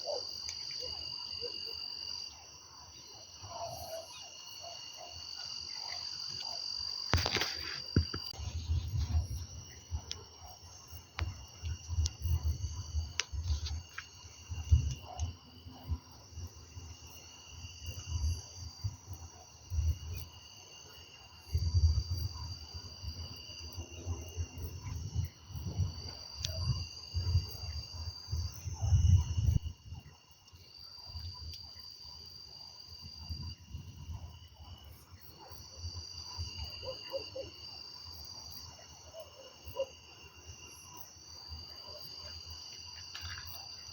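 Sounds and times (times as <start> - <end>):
crickets and insects trilling: 0.0 - 43.9.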